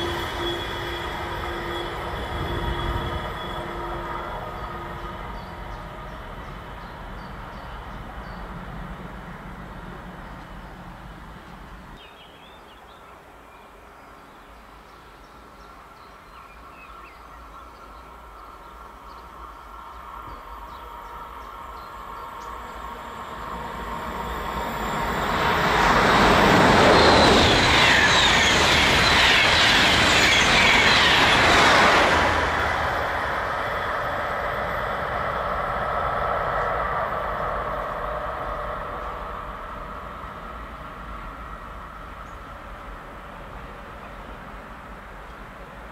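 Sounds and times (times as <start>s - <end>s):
fast train passing: 0.0s - 12.0s, 15.4s - 45.9s.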